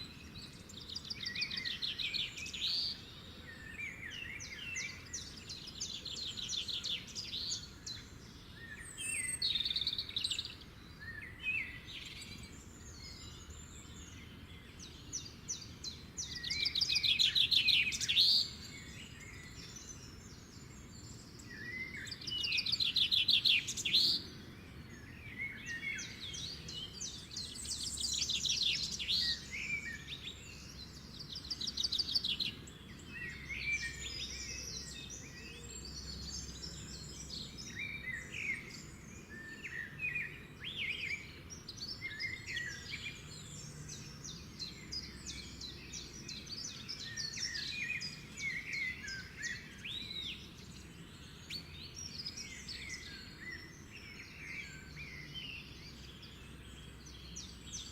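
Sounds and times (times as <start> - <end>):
songbird chattering song: 0.0 - 57.9.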